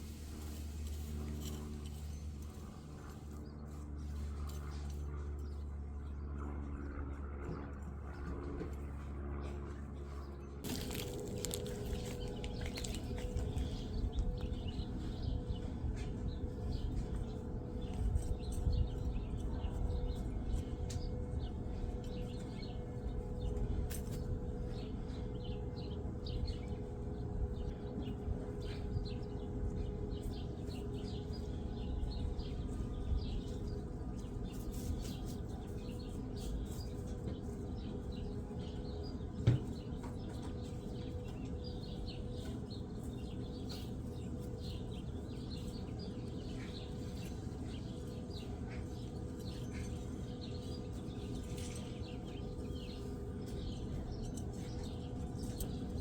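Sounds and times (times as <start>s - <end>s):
low background hum: 0.0s - 56.0s
small birds chirping: 10.6s - 56.0s.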